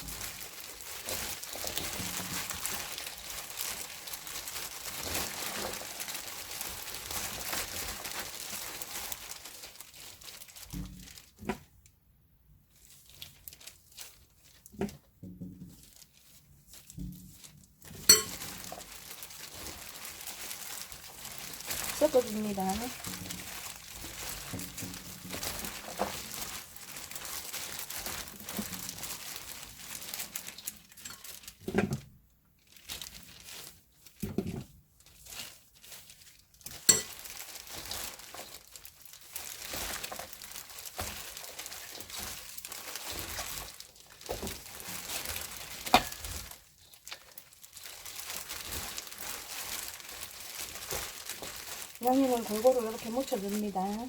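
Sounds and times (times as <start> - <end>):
crinkly rustling of greens: 0.0 - 12.0, 12.6 - 54.0.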